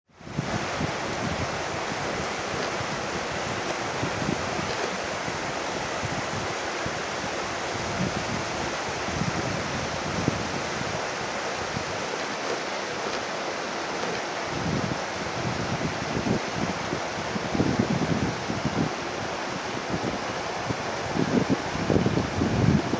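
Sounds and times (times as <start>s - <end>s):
river flowing over rocks: 0.2s - 22.9s
wind buffeting microphone: 0.2s - 22.9s.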